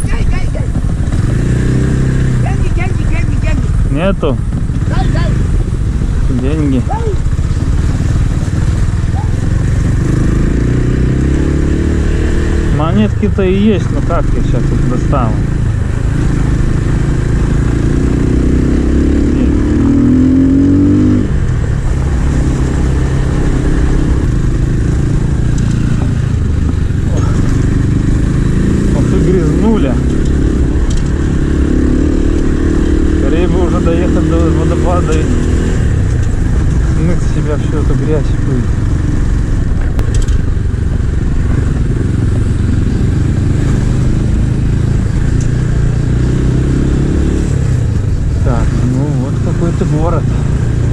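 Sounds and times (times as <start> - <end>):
motorcycle engine accelerating: 0.0 - 50.9
road and wind noise: 0.0 - 50.9.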